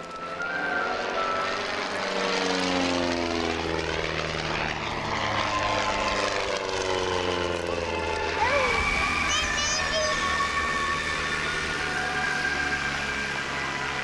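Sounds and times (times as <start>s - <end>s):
propeller planes flying past: 0.0s - 14.0s.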